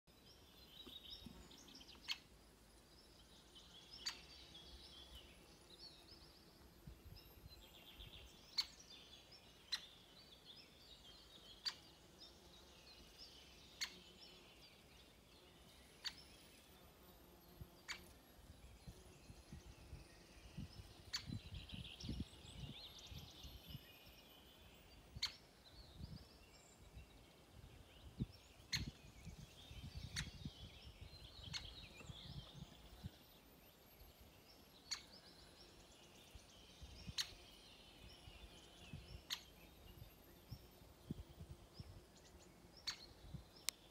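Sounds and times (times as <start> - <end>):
songbirds chirping: 0.1 - 43.9.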